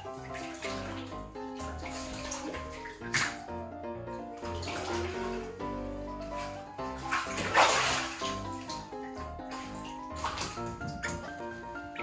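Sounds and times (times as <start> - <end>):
background music: 0.0 - 12.0
water splashing in bathtub: 0.0 - 12.0.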